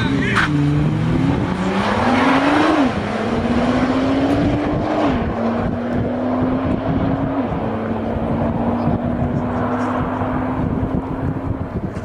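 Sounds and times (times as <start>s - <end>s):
car engine accelerating and upshifting: 0.0s - 12.0s.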